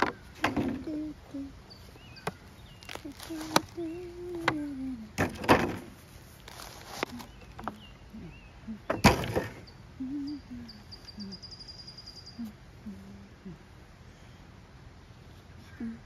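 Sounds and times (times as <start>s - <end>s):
soil rustling: 0.0s - 14.4s.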